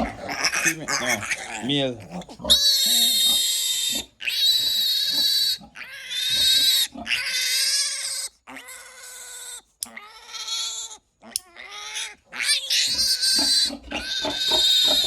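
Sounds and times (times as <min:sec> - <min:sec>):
piglet squealing: 0:00.0 - 0:15.0.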